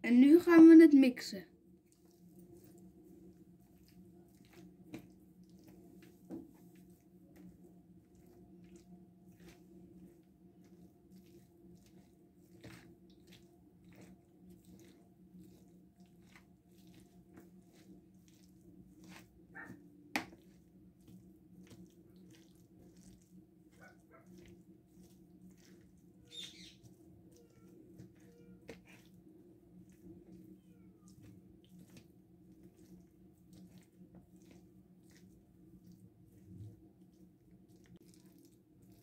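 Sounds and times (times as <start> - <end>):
low kitchen hum: 0.0 - 39.0
food being mashed by hand: 1.8 - 39.0.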